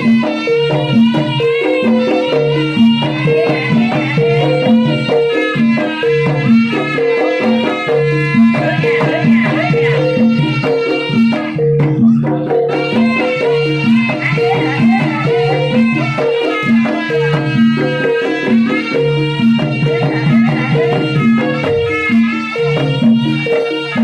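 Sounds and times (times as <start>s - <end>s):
tuned percussion pattern: 0.0s - 24.0s
wavering melody line: 0.0s - 24.0s.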